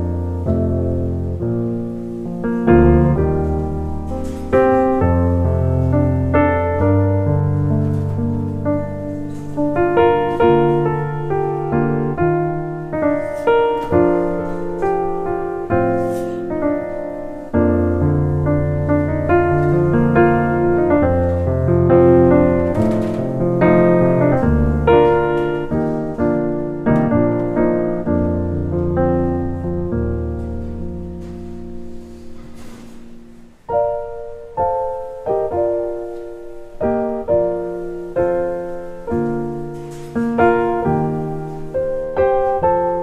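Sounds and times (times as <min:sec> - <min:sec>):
solo piano music: 0:00.0 - 0:43.0.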